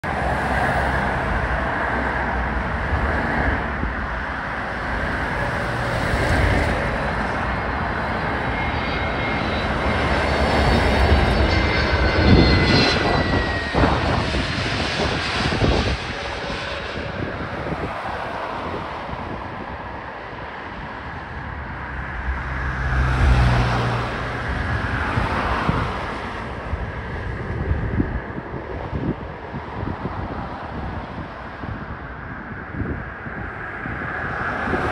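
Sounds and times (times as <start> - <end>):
high jet whine: 0.0 - 34.9
jet engines on approach: 0.0 - 34.9.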